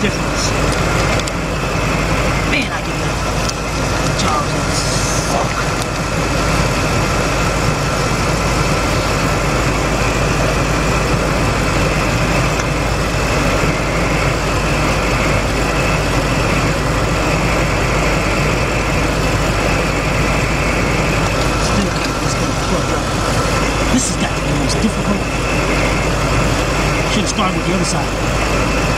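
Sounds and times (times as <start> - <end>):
faint high whine: 0.0 - 28.9
rough idling engine: 0.0 - 28.9.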